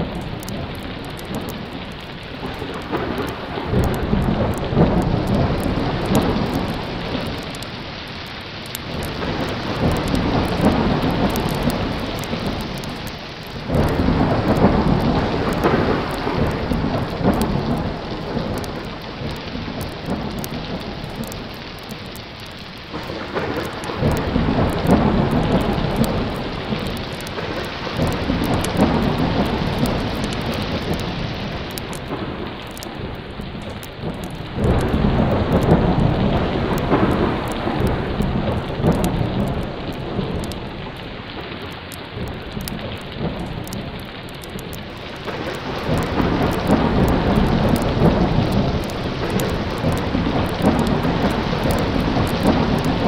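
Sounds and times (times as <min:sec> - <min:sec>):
heavy rain: 0:00.0 - 0:53.0
rolling thunder: 0:00.0 - 0:53.0.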